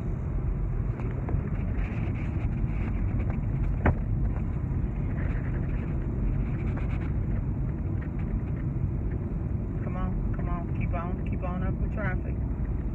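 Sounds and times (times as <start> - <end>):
car road and wind noise: 0.0 - 12.9.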